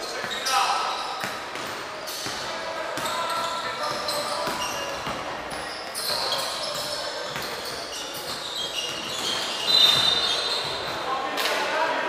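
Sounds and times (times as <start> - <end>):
sneaker squeaks: 0.0 - 11.2.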